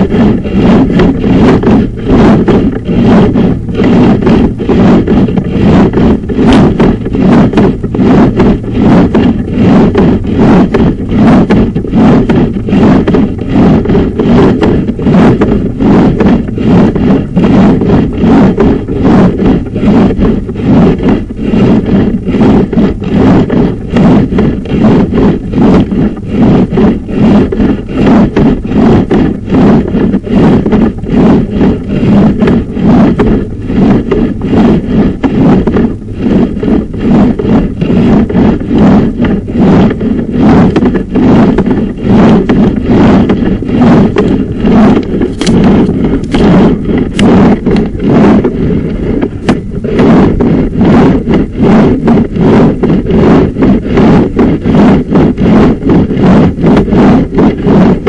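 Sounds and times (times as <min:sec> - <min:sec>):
camera cable scraping inside pipe: 0:00.0 - 0:58.0.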